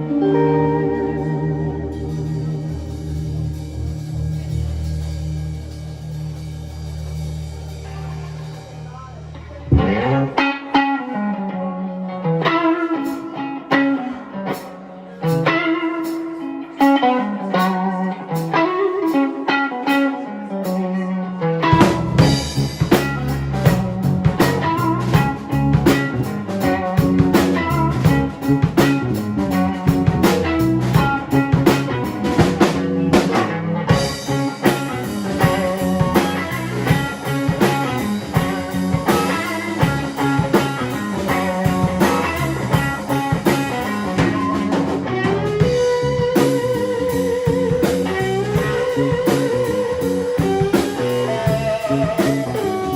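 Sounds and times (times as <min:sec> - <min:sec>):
drum kit: 0:00.0 - 0:11.5, 0:12.2 - 0:20.8, 0:21.6 - 0:52.9
bass guitar: 0:00.0 - 0:52.9
electric guitar: 0:00.0 - 0:52.9.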